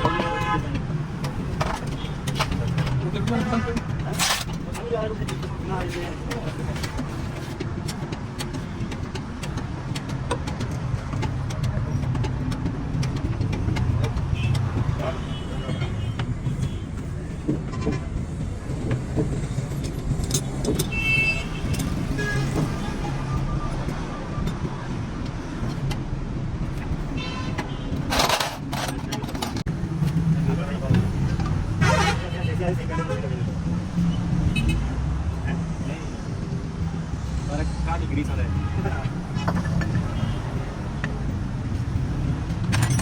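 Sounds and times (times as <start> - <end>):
roadside traffic: 0.0 - 43.0
vehicle engine rumbling: 0.0 - 43.0.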